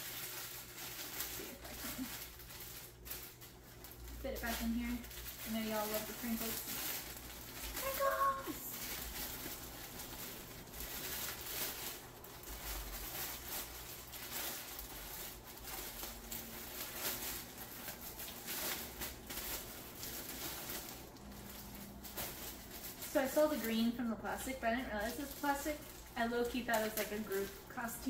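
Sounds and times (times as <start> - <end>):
plastic packaging crinkling: 0.0 - 28.0.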